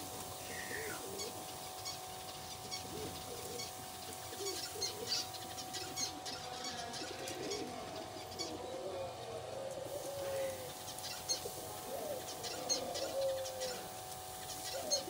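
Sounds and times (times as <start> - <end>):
faint steady hum: 0.0 - 15.0
pigeons cooing: 0.0 - 15.0.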